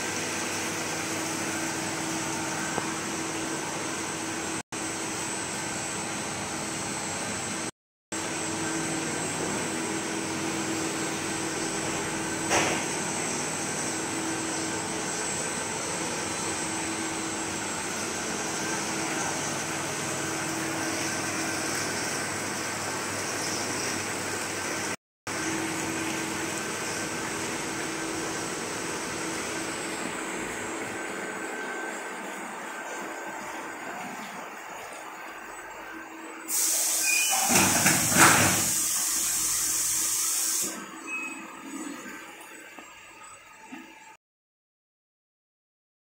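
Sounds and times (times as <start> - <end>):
machine humming with high whine: 0.0 - 44.2.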